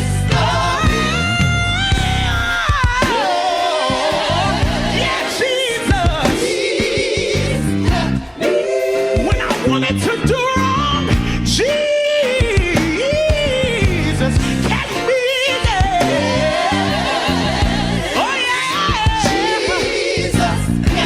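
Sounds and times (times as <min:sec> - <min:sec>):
bass: 0:00.0 - 0:21.0
drums: 0:00.0 - 0:21.0
lead voice singing gospel: 0:00.0 - 0:21.0.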